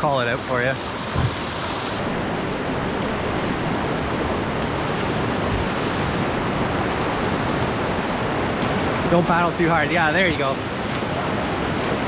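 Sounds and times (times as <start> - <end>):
rapids rushing water: 0.0 - 12.0.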